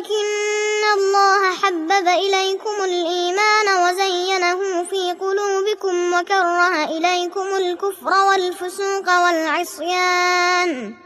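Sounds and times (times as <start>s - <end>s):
girl chanting melodic recitation: 0.0s - 11.0s.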